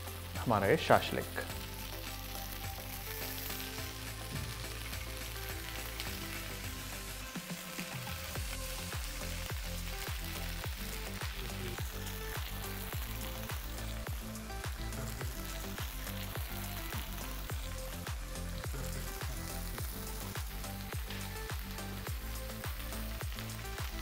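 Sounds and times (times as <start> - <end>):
background music with steady beat: 0.0 - 24.0
food sizzling in oil: 0.0 - 24.0.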